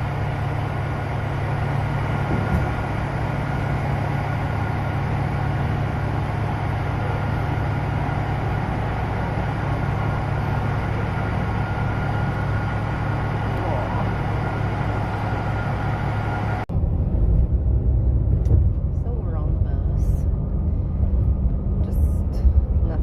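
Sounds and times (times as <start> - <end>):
vehicle engine idling hum: 0.0 - 23.0.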